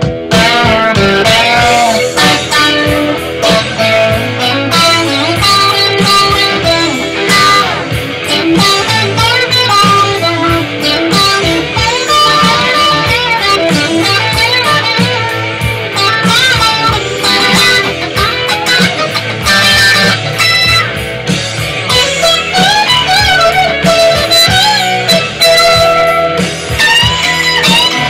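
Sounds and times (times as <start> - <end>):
band with drums and bass: 0.0 - 28.0
electric guitar rock solo: 0.0 - 28.0.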